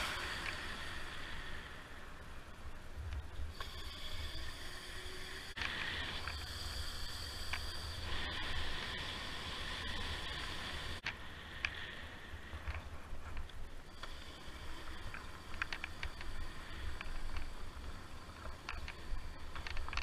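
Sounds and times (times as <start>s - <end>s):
steady high whine: 0.0s - 20.0s.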